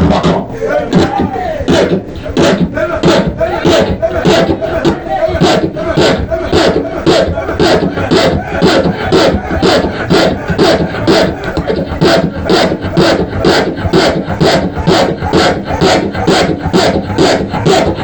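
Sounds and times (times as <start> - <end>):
congregation clapping in rhythm: 0.0 - 18.0
many voices shouting and praying: 0.0 - 18.0.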